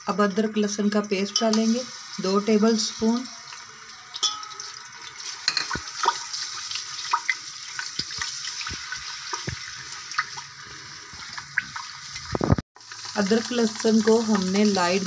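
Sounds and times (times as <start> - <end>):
paste sizzling in hot ghee: 0.2 - 15.0.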